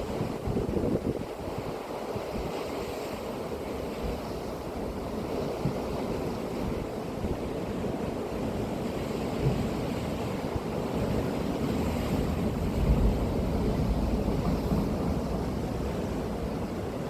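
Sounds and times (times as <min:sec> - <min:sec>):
sea surf washing onto shore: 0:00.0 - 0:17.0
wind buffeting the microphone: 0:00.0 - 0:17.0.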